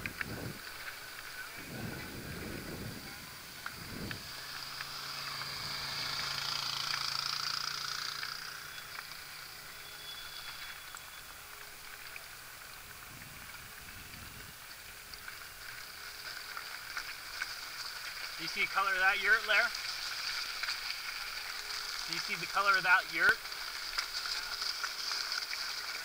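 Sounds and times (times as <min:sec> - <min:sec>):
bike rattling: 0:00.0 - 0:26.0
bike tyres crunching on gravel: 0:00.0 - 0:26.0.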